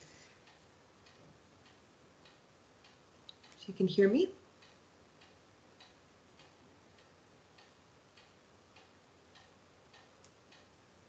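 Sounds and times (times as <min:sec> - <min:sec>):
faint clock ticks: 0:00.0 - 0:11.0.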